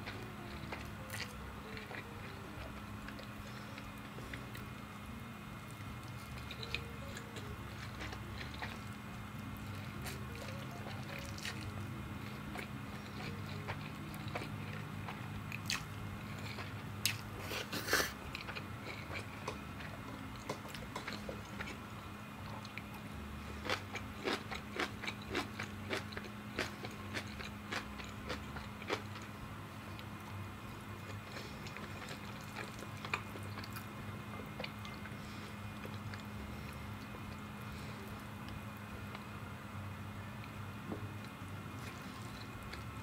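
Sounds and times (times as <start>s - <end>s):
chewing noodles: 0.0s - 4.8s, 5.6s - 21.8s, 22.4s - 30.3s, 30.9s - 38.3s
crunchy chewing: 0.0s - 4.8s, 5.6s - 39.3s.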